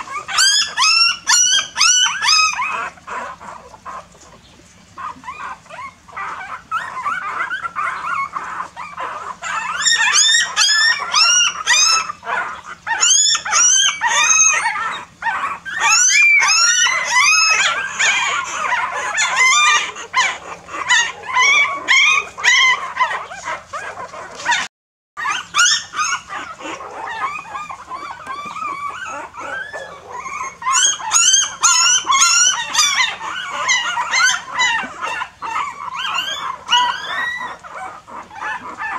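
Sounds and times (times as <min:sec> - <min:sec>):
puppies whining and crying: 0:00.0 - 0:38.9.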